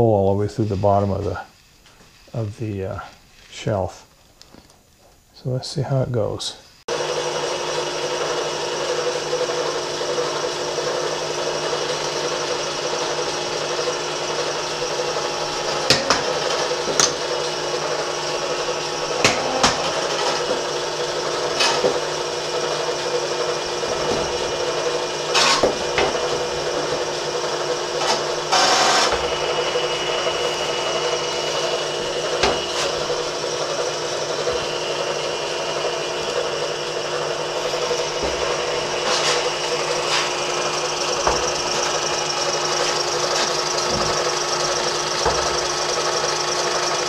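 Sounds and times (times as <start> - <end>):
milling machine spindle running: 6.9 - 47.0
end mill scraping metal: 8.2 - 47.0.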